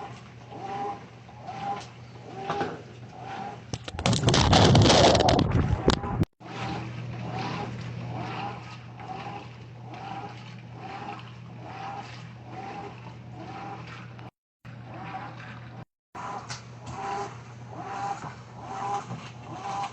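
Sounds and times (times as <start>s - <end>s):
agitator churning: 0.0s - 19.9s
washing machine motor hum: 0.0s - 19.9s.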